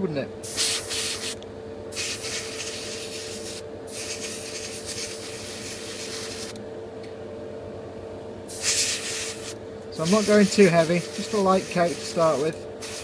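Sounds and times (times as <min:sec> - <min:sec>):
steady motor hum: 0:00.0 - 0:13.0
airbrush hissing: 0:00.4 - 0:06.6, 0:08.5 - 0:13.0.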